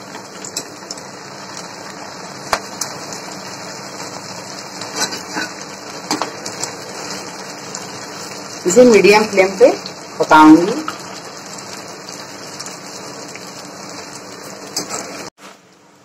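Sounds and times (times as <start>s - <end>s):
pasta deep-frying in oil: 0.0s - 16.0s.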